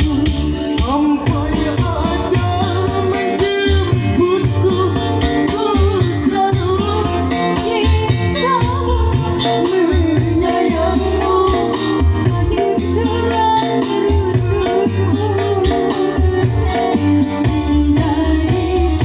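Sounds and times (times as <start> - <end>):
electronic keyboard melody: 0.0 - 19.0
thumping bass beat: 0.0 - 19.0.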